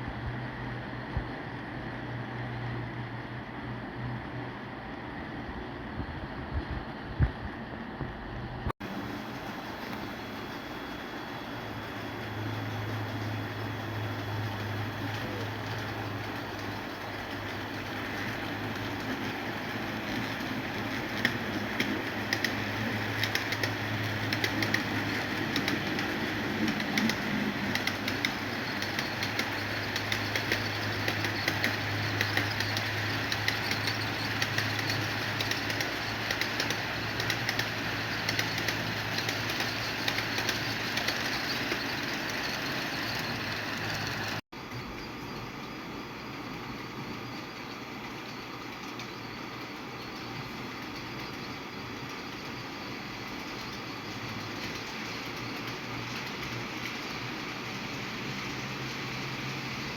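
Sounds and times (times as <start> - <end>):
wheels clicking on track: 8.8 - 59.9.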